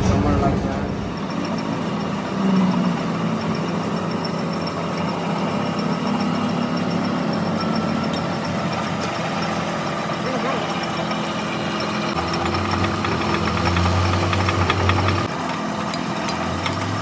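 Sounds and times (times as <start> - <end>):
machine humming: 0.0 - 17.0
fast high ticking: 1.1 - 15.3.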